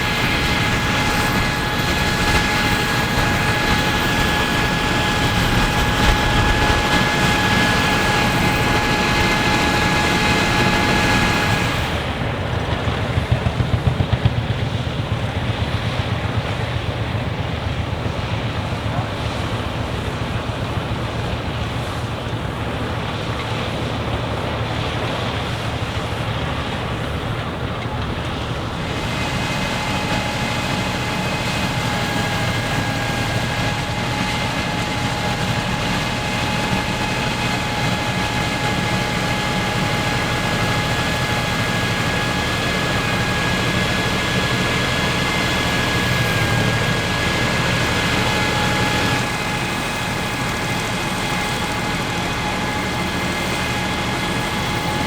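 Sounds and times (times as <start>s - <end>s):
low engine hum: 0.0s - 55.0s
multi-tone machine whine: 0.0s - 55.0s.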